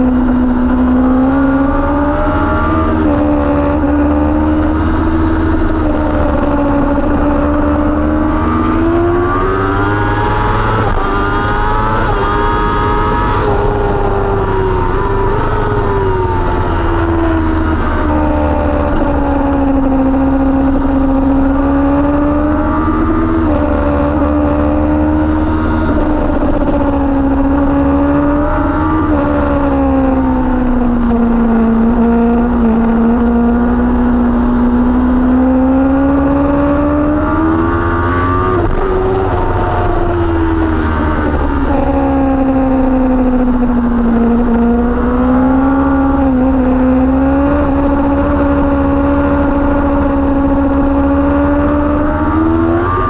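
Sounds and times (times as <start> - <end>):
motorcycle engine at speed: 0.0 - 53.0.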